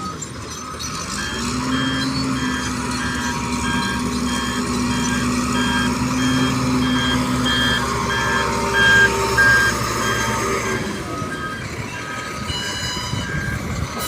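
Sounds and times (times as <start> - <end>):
engine hum: 0.0 - 14.0
reversing alarm beeping: 0.0 - 14.0.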